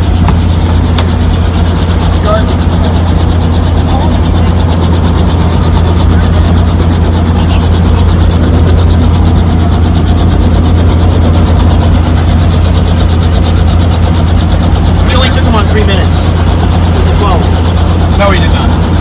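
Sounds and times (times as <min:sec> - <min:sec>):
helicopter blades beating: 0:00.0 - 0:19.0
helicopter engine hum: 0:00.0 - 0:19.0.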